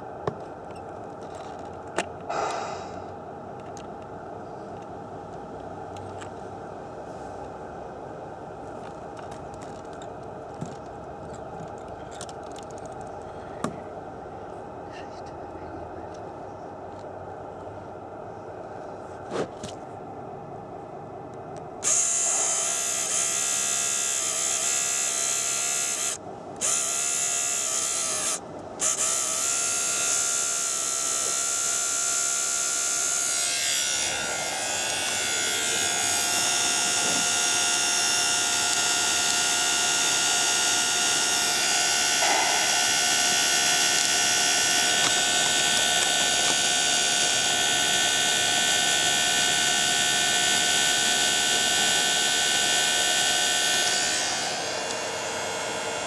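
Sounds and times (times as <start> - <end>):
small electric pump whining: 0.0 - 6.4, 8.6 - 13.9, 21.8 - 56.0.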